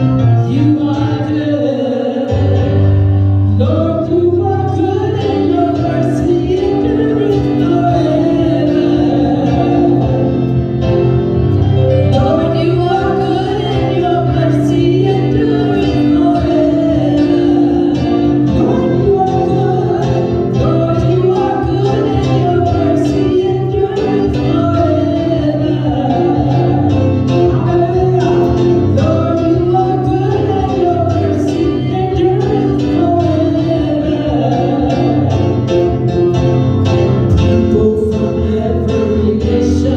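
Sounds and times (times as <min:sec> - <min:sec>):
bass: 0:00.0 - 0:39.9
gospel singing: 0:00.0 - 0:39.9
keyboard: 0:00.0 - 0:39.9.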